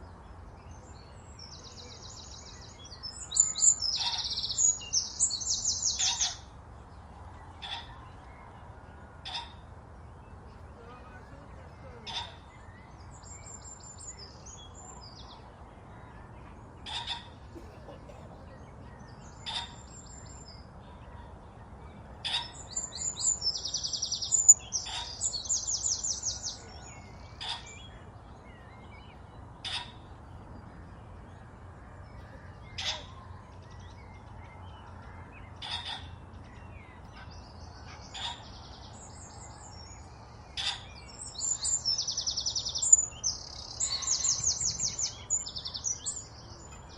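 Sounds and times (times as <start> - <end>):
buzzy trilled birdsong: 0.0 - 46.9.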